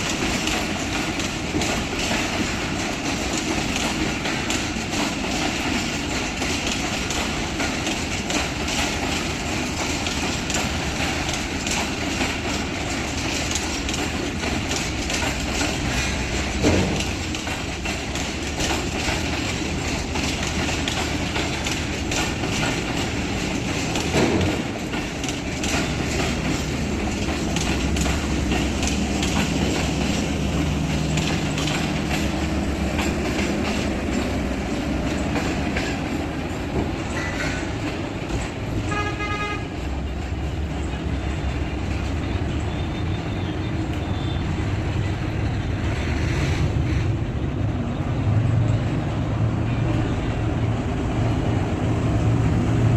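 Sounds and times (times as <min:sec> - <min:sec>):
train wheels clicking over rails: 0:00.0 - 0:52.9.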